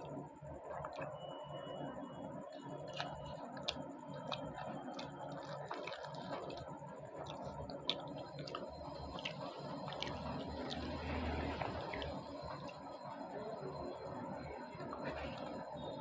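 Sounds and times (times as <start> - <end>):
wet chewing squishes: 0.0 - 1.2, 1.8 - 16.0
background hum: 0.0 - 16.0.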